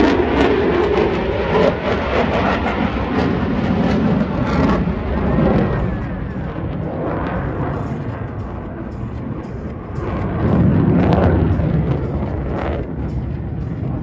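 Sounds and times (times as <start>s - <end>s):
jet fighter engine roar: 0.0s - 14.0s.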